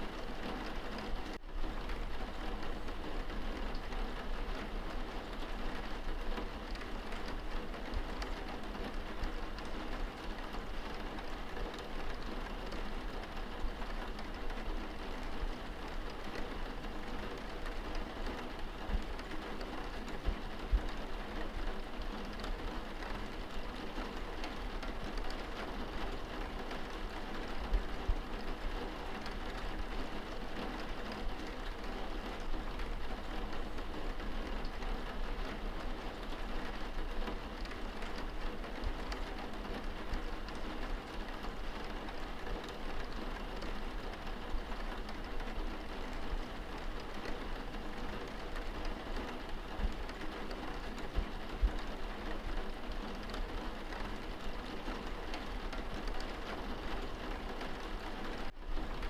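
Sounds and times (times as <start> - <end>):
rain pattering on window: 0.0 - 59.0.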